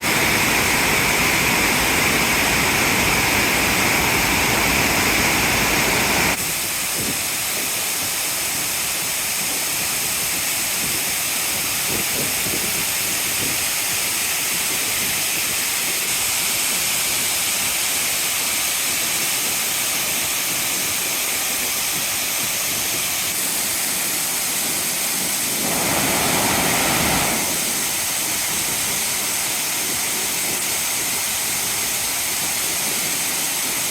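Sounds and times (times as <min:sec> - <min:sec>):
water rushing over weir: 0:00.0 - 0:33.9.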